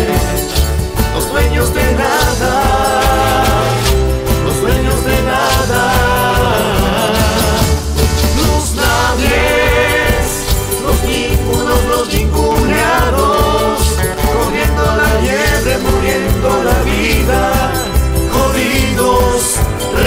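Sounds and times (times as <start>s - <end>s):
guitar and band: 0.0s - 20.0s
man singing: 0.0s - 20.0s
deep bass pulse: 0.8s - 20.0s.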